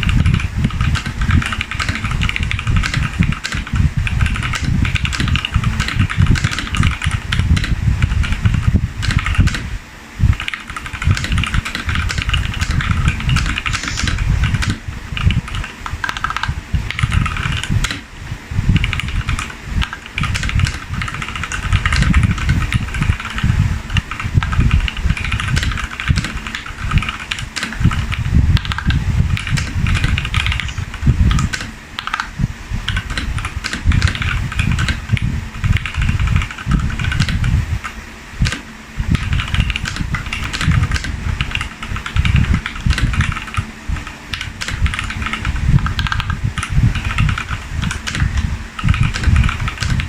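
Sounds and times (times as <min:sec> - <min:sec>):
mechanical keyboard typing: 0:00.0 - 0:09.7, 0:10.3 - 0:18.1, 0:18.8 - 0:50.0
low rumble: 0:00.0 - 0:50.0.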